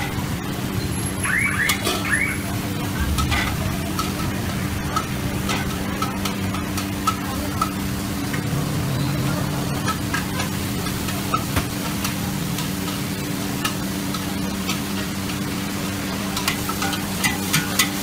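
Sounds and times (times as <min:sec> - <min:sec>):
noodles sizzling in a wok: 0:00.0 - 0:18.0
metal utensils clinking on wok: 0:01.6 - 0:08.5, 0:09.6 - 0:18.0.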